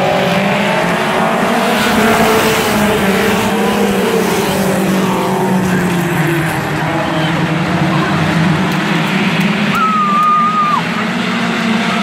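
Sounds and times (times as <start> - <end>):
stock car engines accelerating: 0.0 - 12.0.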